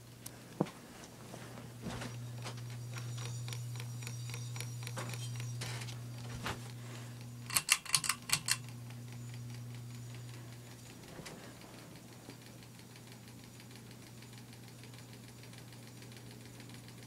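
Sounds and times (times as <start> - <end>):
ceiling fan motor hum: 0.0 - 17.0
fan clicking: 1.8 - 17.0.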